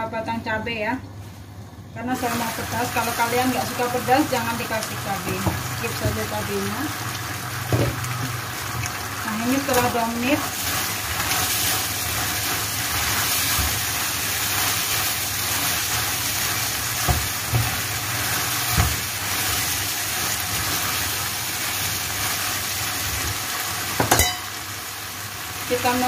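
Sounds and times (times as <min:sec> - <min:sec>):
food sizzling in a wok: 0:02.1 - 0:26.0.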